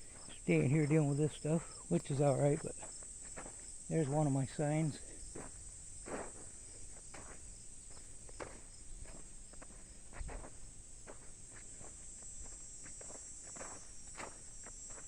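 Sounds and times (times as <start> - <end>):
footsteps: 0.0 - 15.0
high-pitched insect chorus: 0.0 - 15.0.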